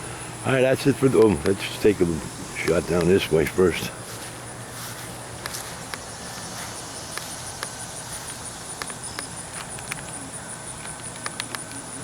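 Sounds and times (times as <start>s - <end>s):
low steady hum: 0.0s - 12.0s
pulsing insect call: 0.0s - 12.0s.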